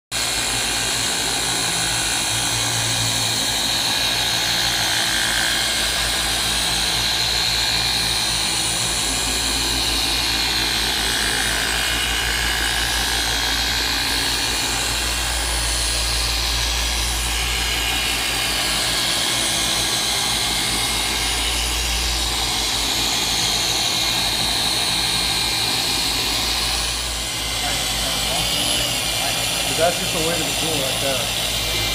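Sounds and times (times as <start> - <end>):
orbital polisher running: 0.2 - 31.9.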